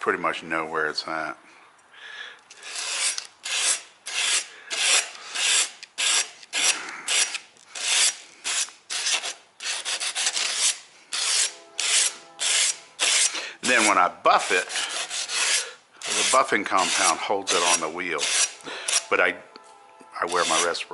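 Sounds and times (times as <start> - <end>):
sandpaper scraping on metal: 2.6 - 19.1, 20.2 - 20.9.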